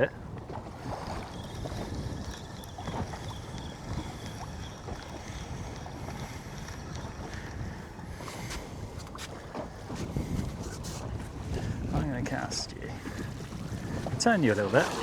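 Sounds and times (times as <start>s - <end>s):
sea water moving around boat: 0.0s - 15.0s
wind buffeting microphone: 0.0s - 15.0s.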